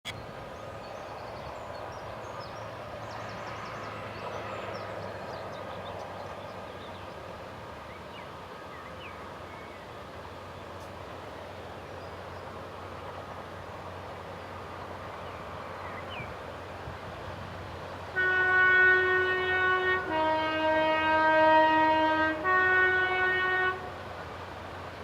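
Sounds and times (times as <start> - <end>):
diesel locomotive engine drone: 0.1 - 25.0.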